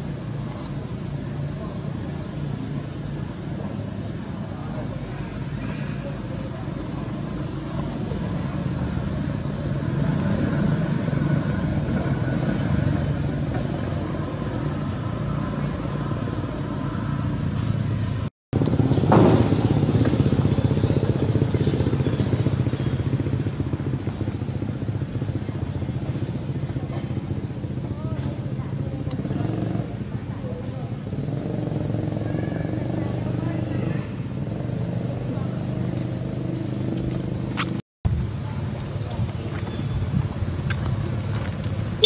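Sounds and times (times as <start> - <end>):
motorbike engines running: 0.0 - 42.0.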